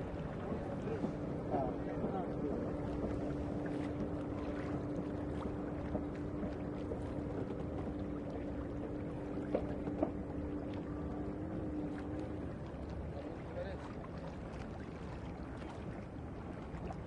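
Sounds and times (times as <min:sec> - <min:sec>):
steady low hum: 0:00.0 - 0:17.0
water noise: 0:00.0 - 0:17.0
wind: 0:00.0 - 0:17.0.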